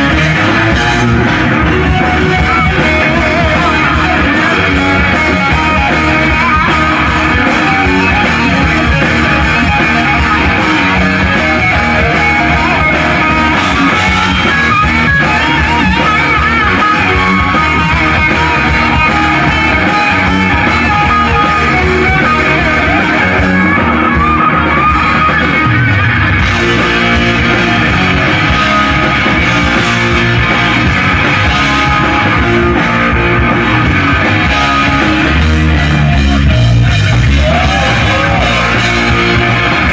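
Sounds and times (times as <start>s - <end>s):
electric guitar solo: 0.0s - 39.9s
hard rock band playing: 0.0s - 39.9s.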